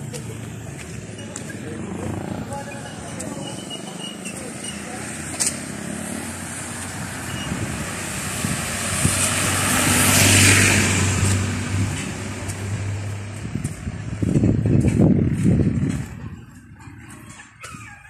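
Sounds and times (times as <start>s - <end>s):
van engine humming: 0.0s - 17.6s.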